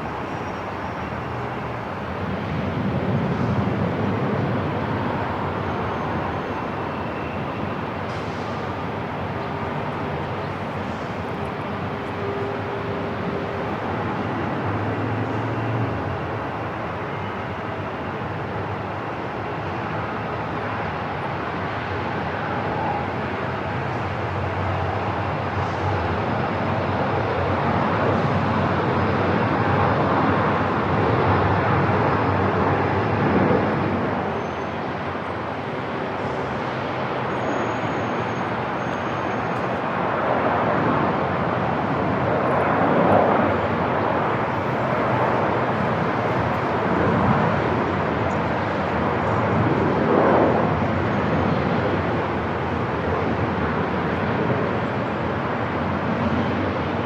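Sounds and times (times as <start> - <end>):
aircraft engine noise: 0.0 - 57.0.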